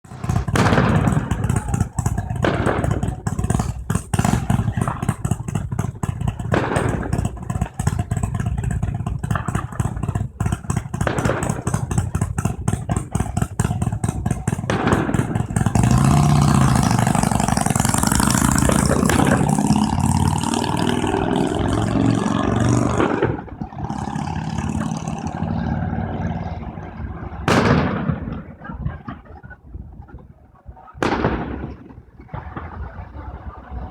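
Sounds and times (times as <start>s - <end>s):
motorcycle engines revving: 0.0s - 33.9s
sharp loud burst: 0.1s - 28.7s, 31.0s - 32.8s.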